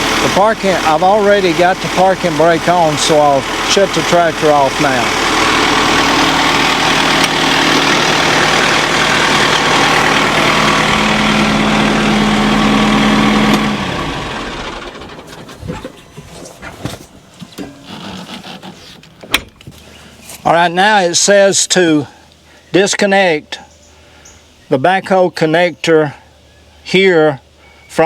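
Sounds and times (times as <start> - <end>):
tractor engine idling: 0.0 - 28.0.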